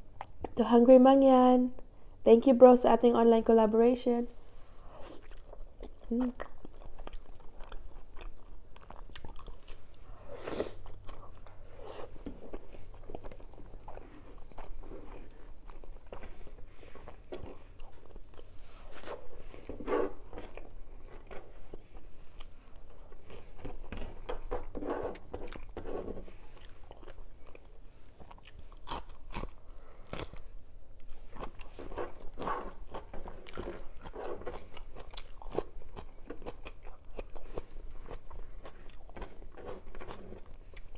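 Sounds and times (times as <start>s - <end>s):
person chewing and lip smacking: 0.0s - 0.6s, 4.8s - 25.8s, 26.4s - 40.9s.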